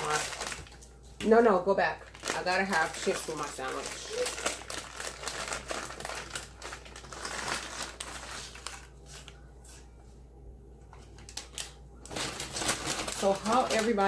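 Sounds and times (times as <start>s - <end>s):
chip bag crinkling: 0.0s - 9.4s, 11.1s - 14.0s.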